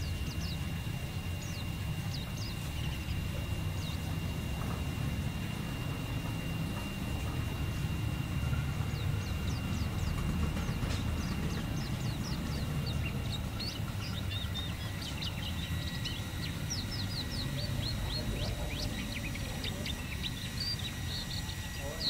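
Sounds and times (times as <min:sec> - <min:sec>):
bird singing high chirps: 0:00.0 - 0:05.8, 0:08.4 - 0:22.0
steady low rumble: 0:00.0 - 0:22.0.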